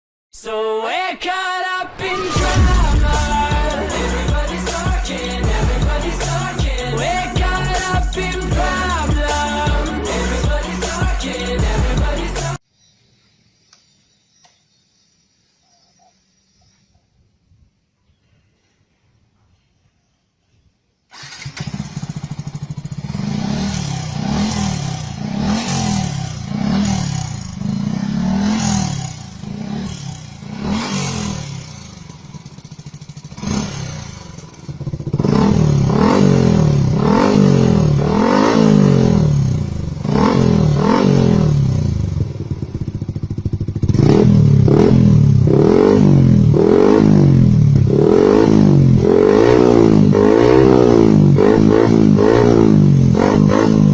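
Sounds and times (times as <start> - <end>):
motorcycle engine revving: 2.2 - 12.6, 21.1 - 53.9.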